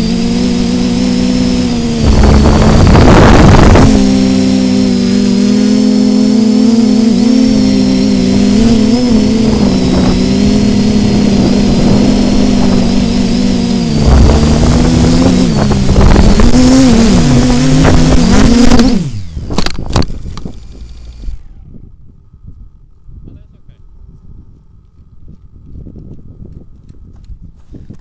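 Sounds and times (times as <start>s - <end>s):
drone motors whining: 0.0s - 23.9s
wind rumbling on microphone: 0.0s - 28.0s.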